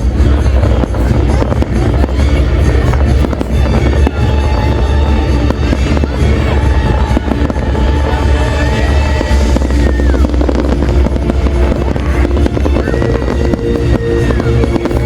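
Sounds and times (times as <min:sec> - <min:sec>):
fireworks bangs and crackles: 0:00.0 - 0:15.0
loud bass-heavy music: 0:00.0 - 0:15.0.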